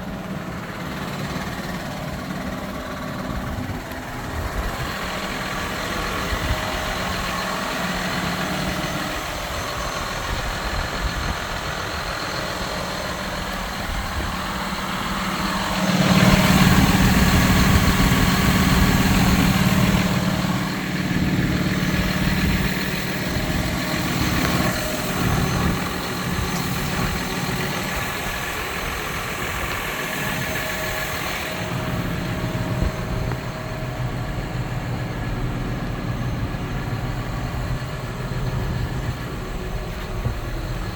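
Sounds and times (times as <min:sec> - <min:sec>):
tractor diesel engine idling: 0:00.0 - 0:40.9.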